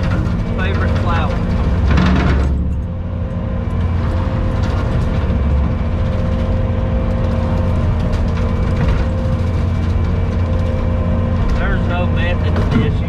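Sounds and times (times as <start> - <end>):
skid steer engine low hum: 0.0 - 13.0.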